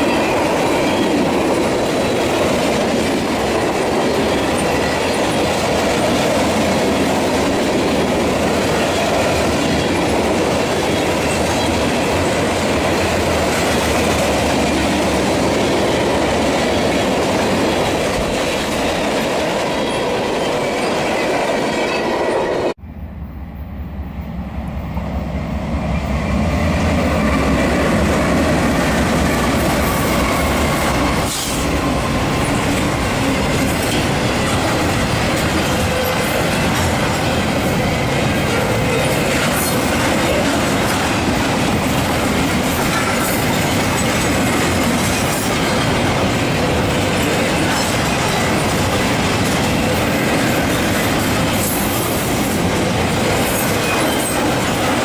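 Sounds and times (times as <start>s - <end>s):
train wheels clicking over rails: 0.0s - 22.8s, 26.0s - 55.0s
freight train cars rumbling past: 0.0s - 55.0s.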